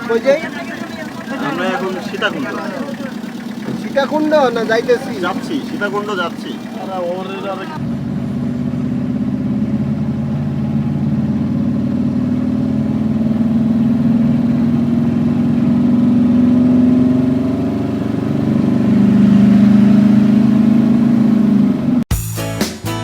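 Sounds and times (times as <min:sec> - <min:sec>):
vehicle engine running: 0:00.0 - 0:22.1.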